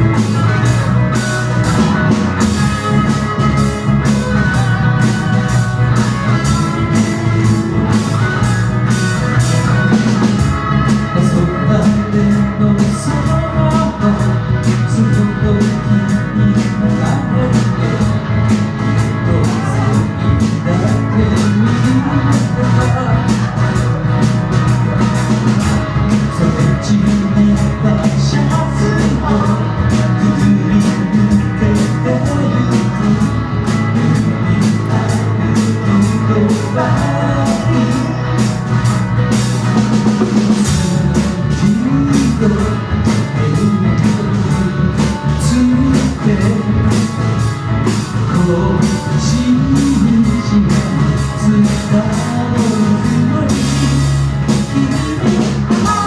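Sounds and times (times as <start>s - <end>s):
bass: 0.0s - 56.0s
drum kit beat: 0.0s - 56.0s
electric guitar: 0.0s - 56.0s.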